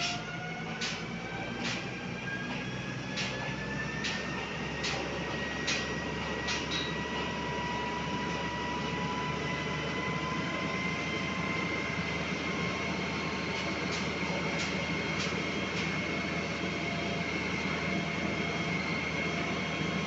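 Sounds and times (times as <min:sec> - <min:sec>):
machine whine rising in pitch: 0:00.0 - 0:20.0.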